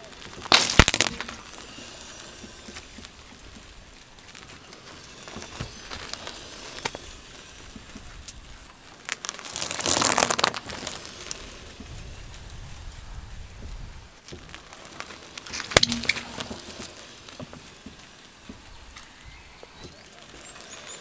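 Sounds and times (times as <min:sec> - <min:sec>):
tyre crushing small toys: 0:00.0 - 0:12.6, 0:14.2 - 0:21.0.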